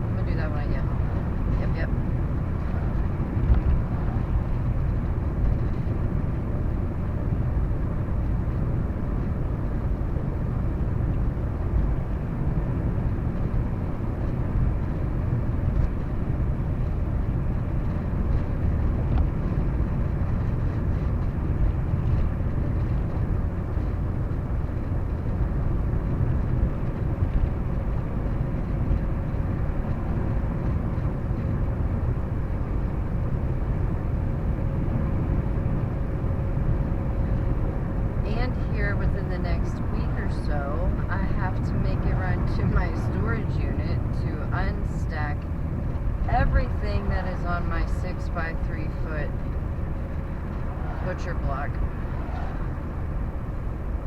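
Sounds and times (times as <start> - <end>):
car road rumble from inside: 0.0 - 54.0.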